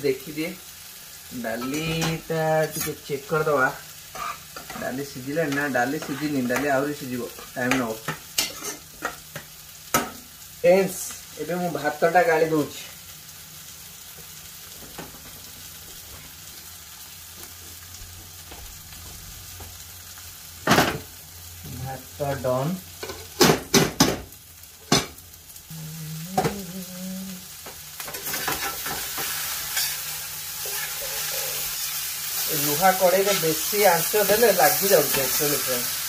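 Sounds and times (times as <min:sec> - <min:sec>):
vegetables sizzling in a pan: 0:00.0 - 0:36.0.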